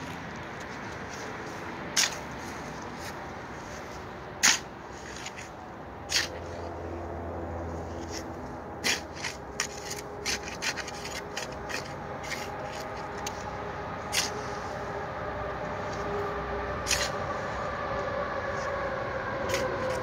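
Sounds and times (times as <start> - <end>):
stick scraping dirt: 0.0 - 14.9, 16.8 - 17.6, 19.5 - 20.0.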